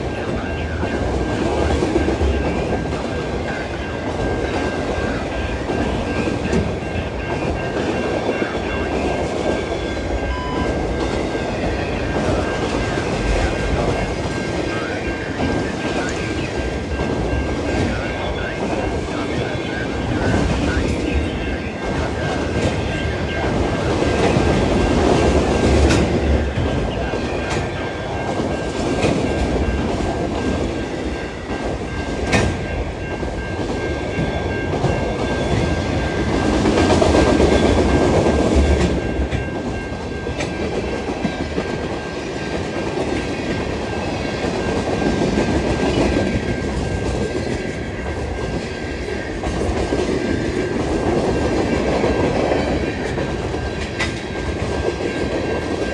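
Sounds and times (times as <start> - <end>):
freight train rumbling past: 0.0 - 55.9.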